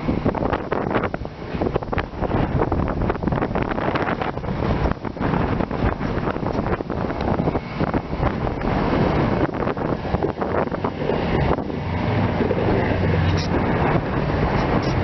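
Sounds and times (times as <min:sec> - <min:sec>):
gusty wind buffeting microphone: 0:00.0 - 0:15.0.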